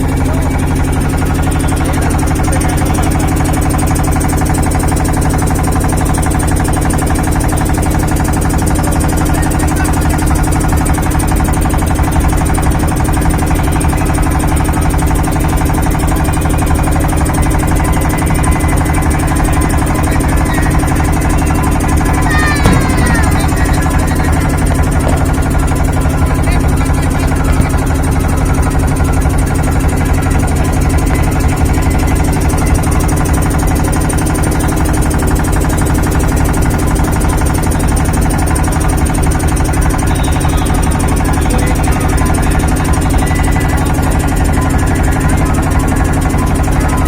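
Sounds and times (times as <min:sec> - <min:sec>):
engine running steadily: 0:00.0 - 0:47.0.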